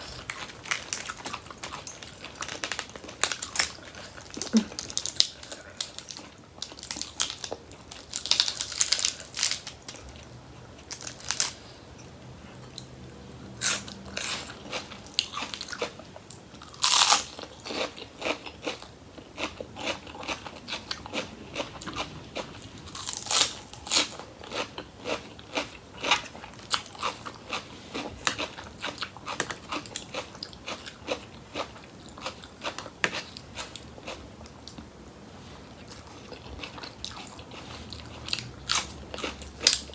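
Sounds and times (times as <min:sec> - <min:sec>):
person chewing crunchy vegetables: 0:00.0 - 0:39.9.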